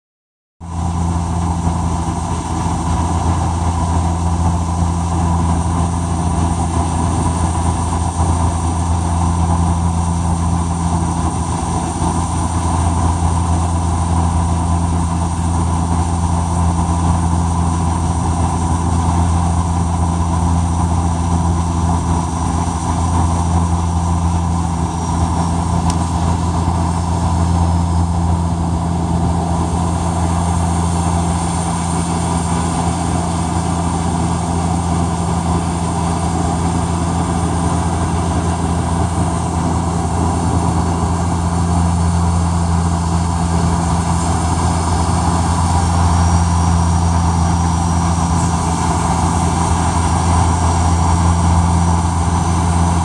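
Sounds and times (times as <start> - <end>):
airliner engines droning: 0.6 - 53.0
low hum: 0.6 - 53.0
rushing airflow: 0.7 - 53.0.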